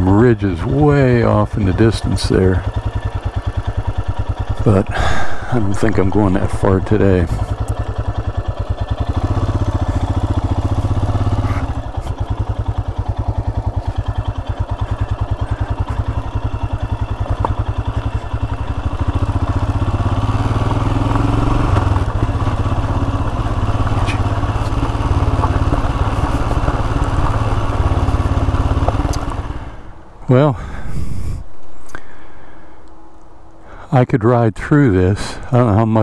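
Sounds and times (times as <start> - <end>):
motorcycle engine running: 0.0 - 31.4.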